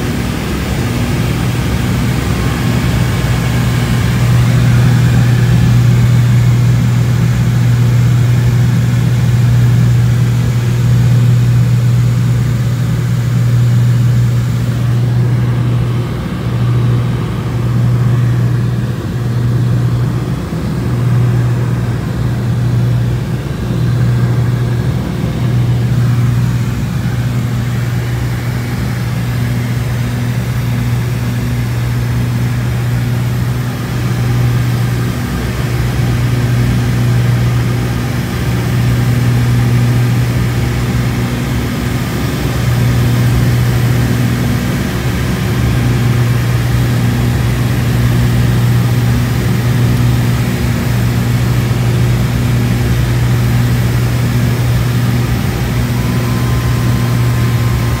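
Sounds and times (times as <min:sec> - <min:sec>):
aircraft engines droning in cabin: 0:00.0 - 0:58.0.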